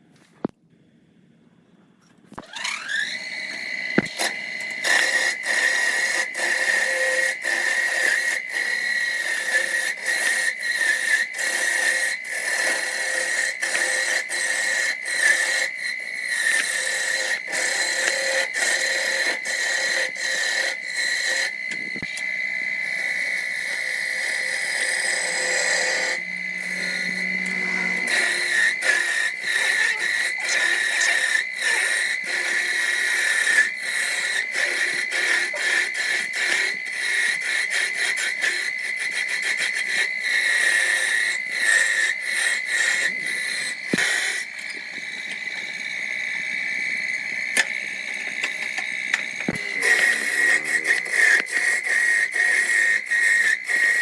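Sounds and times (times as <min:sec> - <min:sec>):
power tool whining: 0:02.3 - 0:54.0.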